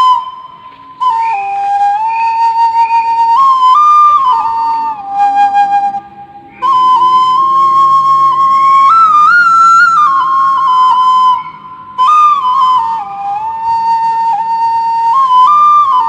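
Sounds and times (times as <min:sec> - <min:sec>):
bamboo flute melody: 0:00.0 - 0:16.0.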